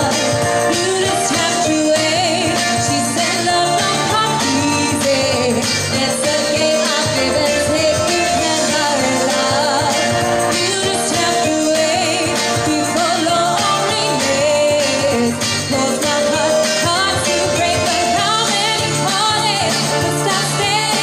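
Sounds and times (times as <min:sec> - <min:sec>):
live pop band playing: 0:00.0 - 0:21.0
woman singing: 0:00.0 - 0:21.0.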